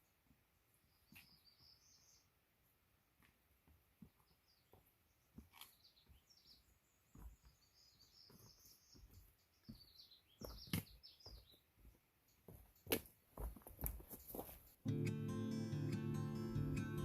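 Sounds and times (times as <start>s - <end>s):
songbird chirping: 0.0s - 13.4s, 14.1s - 17.0s.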